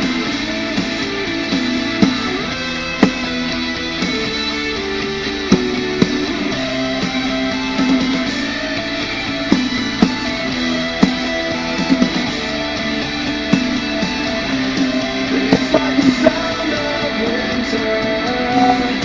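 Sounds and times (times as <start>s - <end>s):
guitar chords ringing: 0.0s - 19.0s
sharp guitar strums: 0.0s - 19.0s.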